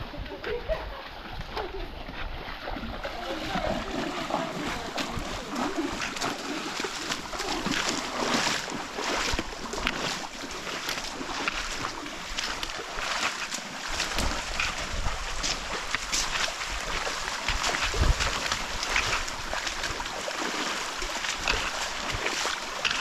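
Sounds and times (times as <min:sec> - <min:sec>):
flowing water rushing: 0:00.0 - 0:23.0
legs wading and splashing: 0:00.0 - 0:23.0.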